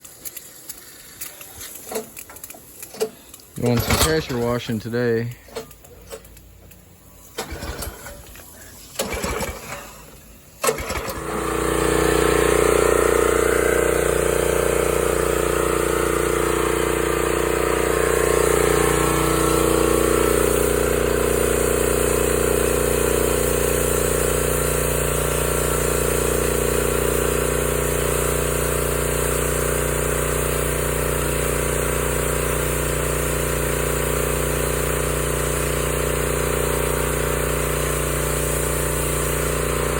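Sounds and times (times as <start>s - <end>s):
pressure washer engine running: 1.3s - 5.6s, 7.4s - 39.9s.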